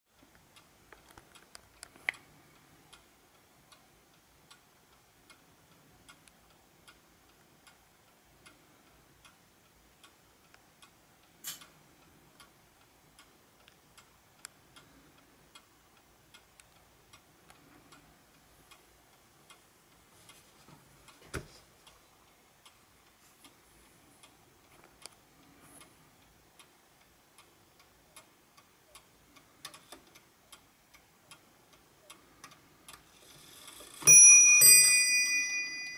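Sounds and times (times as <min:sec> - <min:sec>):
clock ticking faintly: 0:00.1 - 0:34.3.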